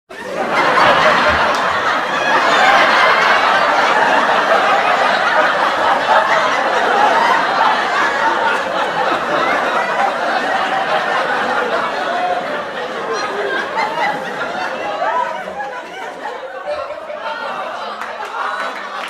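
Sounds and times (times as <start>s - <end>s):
studio audience laughing: 0.1s - 19.0s.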